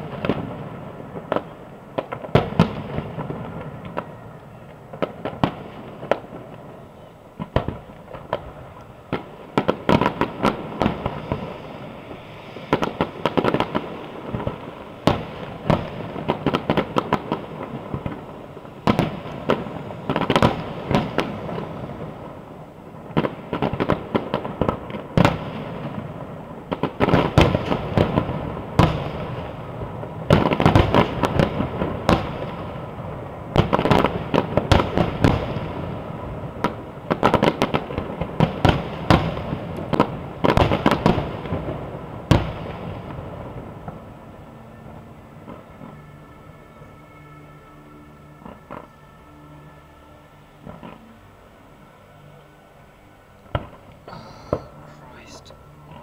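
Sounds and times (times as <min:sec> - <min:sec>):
fireworks bangs and crackling: 0:00.0 - 0:46.2, 0:48.3 - 0:49.5, 0:50.6 - 0:51.1
steady rumble and crackle: 0:00.0 - 0:46.3, 0:50.5 - 0:56.0.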